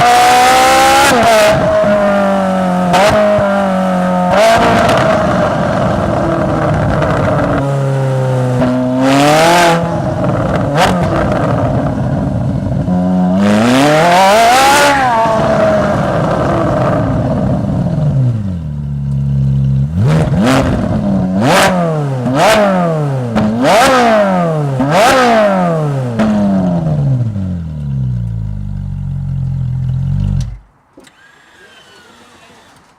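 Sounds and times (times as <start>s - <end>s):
sports car engine revving: 0.0s - 30.7s.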